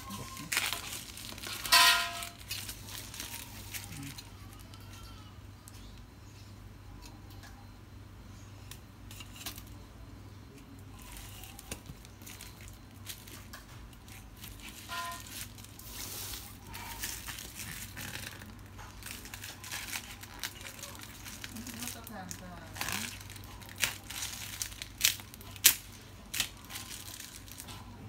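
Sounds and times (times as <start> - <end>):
tape and plastic crinkling: 0.0 - 6.1, 10.5 - 28.0.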